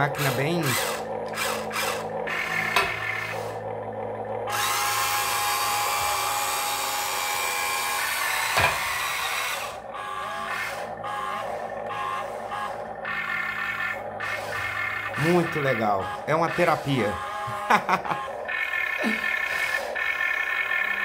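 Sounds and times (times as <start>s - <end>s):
toy excavator motors whirring: 0.0s - 21.0s.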